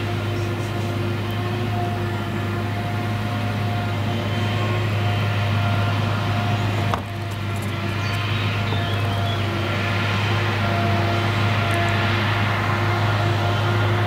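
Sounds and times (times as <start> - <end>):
forage harvester heavy hum: 0.0 - 14.0
steady machine whine: 0.0 - 14.0
tractor running: 0.0 - 14.0.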